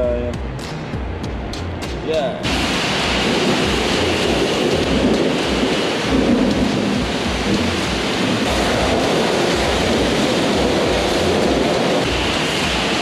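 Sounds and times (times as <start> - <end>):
water spray rushing: 2.2 - 13.0
low machine rumble: 2.4 - 13.0.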